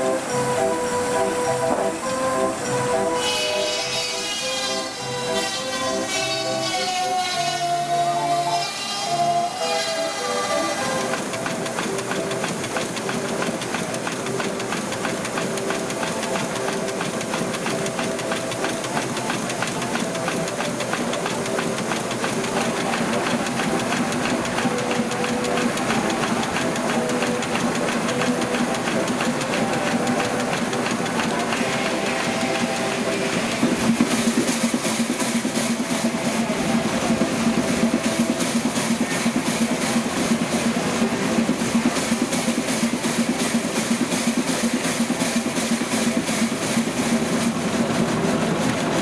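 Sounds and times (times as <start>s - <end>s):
steam engine fast beat: 0.0s - 49.0s
steam hissing: 0.0s - 49.0s.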